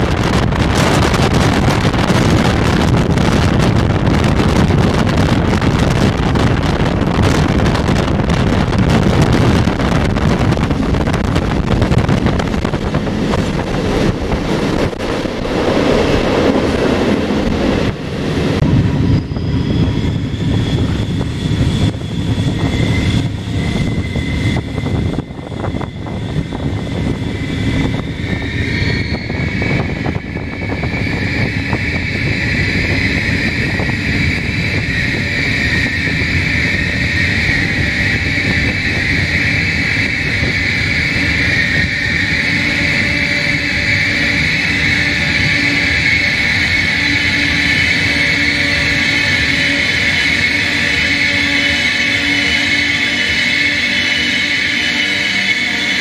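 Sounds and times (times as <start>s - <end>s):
wind rushing past: 0.0s - 55.2s
high multi-tone whine: 0.0s - 56.0s
train wheels rumbling on track: 0.0s - 56.0s.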